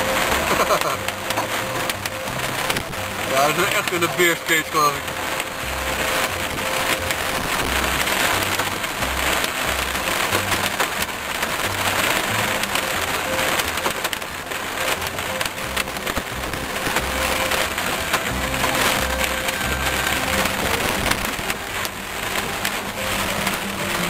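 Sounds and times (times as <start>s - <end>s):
heavy rain on car windshield: 0.0s - 24.0s
music with bass line: 0.0s - 24.0s.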